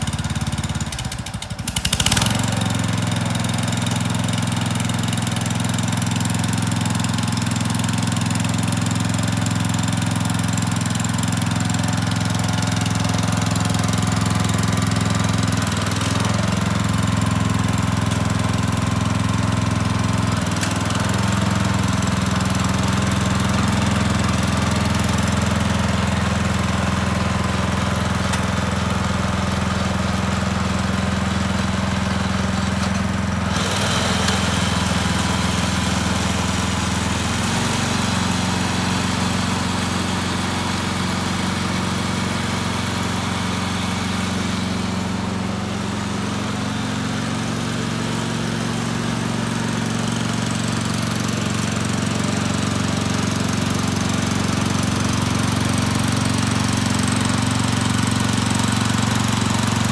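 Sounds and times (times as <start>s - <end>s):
tiller engine running: 0.0s - 59.9s.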